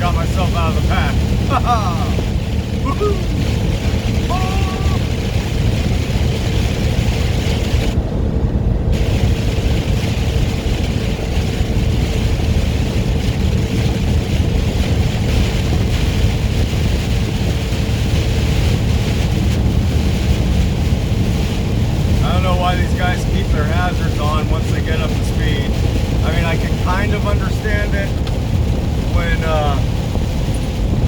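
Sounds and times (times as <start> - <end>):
rain and road hiss: 0.0 - 8.0, 8.9 - 31.0
diesel engine drone: 0.0 - 31.0.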